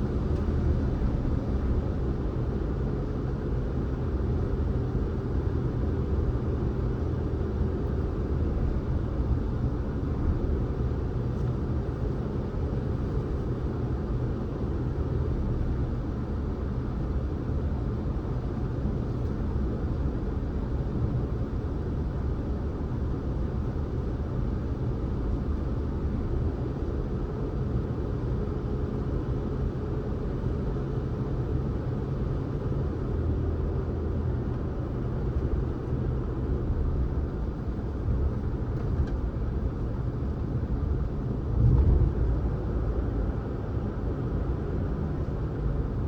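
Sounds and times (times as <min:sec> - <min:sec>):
car tyres and engine rumbling: 0:00.0 - 0:46.0.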